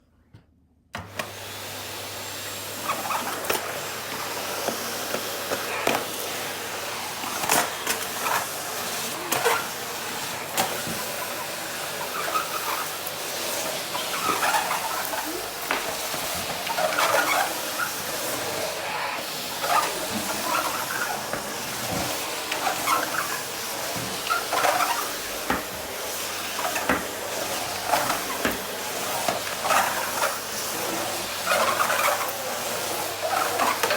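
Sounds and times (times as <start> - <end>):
vacuum cleaner running: 1.0 - 33.9.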